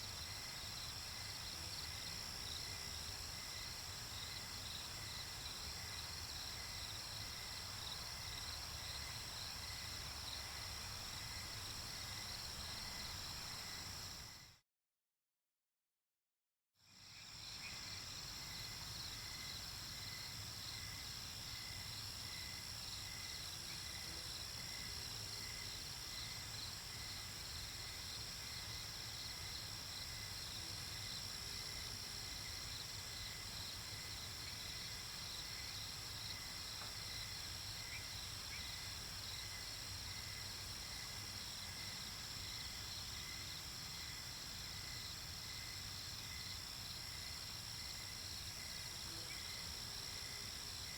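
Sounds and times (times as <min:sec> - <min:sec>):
low cricket chirp: 0:00.0 - 0:14.6, 0:16.8 - 0:50.9.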